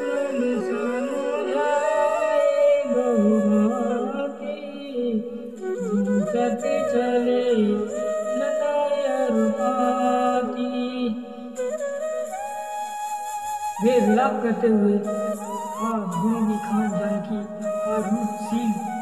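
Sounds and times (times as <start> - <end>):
person singing slow melody: 0.0 - 11.8, 13.8 - 19.0.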